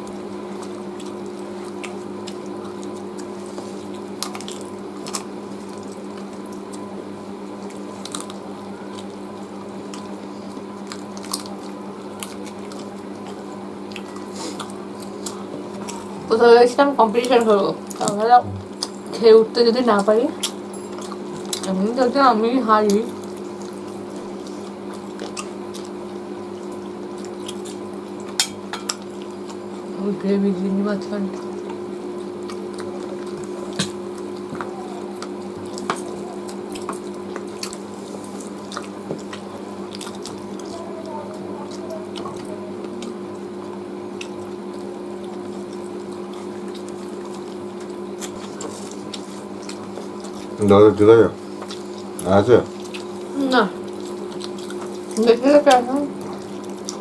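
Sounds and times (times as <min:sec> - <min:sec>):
chewing: 0:00.0 - 0:30.0, 0:30.7 - 0:57.0
steady low hum: 0:00.0 - 0:57.0
wet squishing of food by hand: 0:00.0 - 0:57.0.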